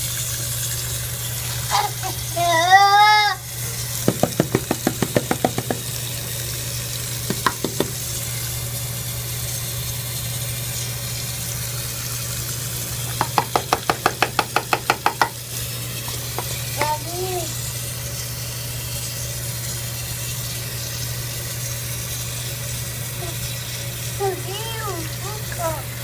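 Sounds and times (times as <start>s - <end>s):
faucet running into sink: 0.0s - 26.0s.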